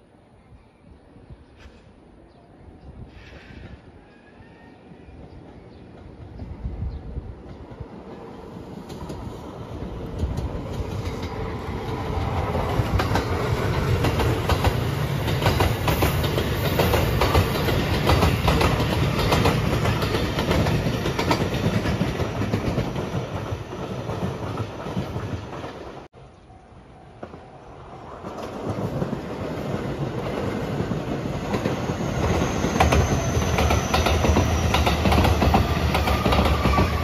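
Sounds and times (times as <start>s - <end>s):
electric train passing: 3.1s - 26.1s, 26.7s - 37.0s.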